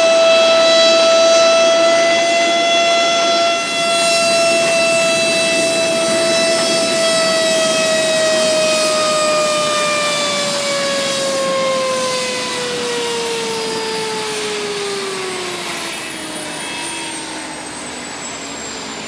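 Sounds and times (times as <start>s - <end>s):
loud high whine: 0.0s - 19.0s.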